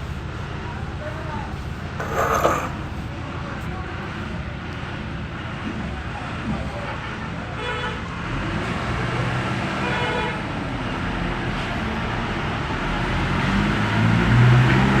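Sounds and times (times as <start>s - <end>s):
road vehicle noise: 0.0s - 15.0s.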